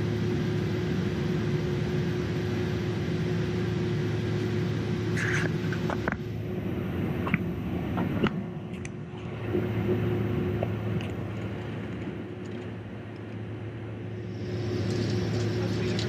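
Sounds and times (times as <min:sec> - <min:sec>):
jet engines idling hum: 0:00.0 - 0:16.0.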